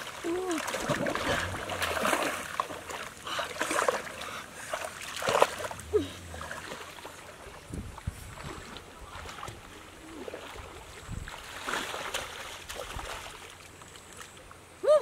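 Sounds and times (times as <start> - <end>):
water splashing and sloshing: 0.0 - 14.8.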